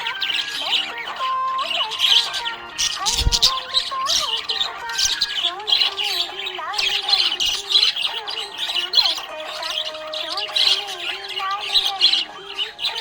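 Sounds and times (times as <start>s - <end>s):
budgerigar warbling and chattering: 0.0s - 13.0s.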